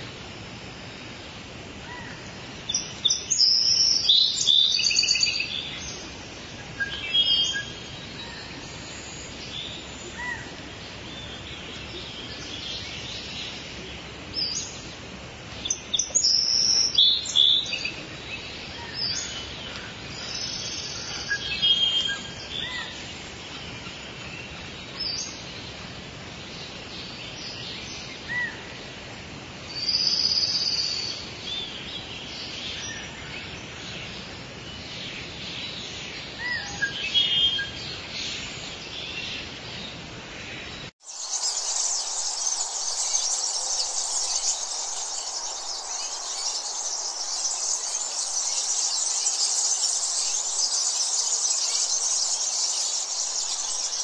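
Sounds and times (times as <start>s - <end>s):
small songbirds chirping: 0.0s - 54.0s
steady outdoor hiss: 0.0s - 54.0s.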